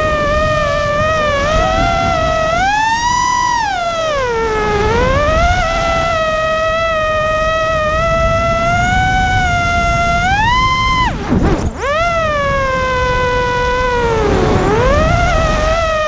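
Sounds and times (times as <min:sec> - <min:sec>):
quadcopter motors whining: 0:00.0 - 0:16.0
wind rumble: 0:00.0 - 0:16.0.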